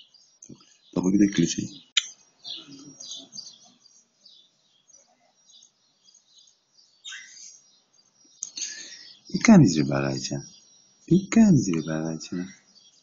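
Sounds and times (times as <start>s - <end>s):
baby budgerigar cheeping: 1.7s - 13.0s.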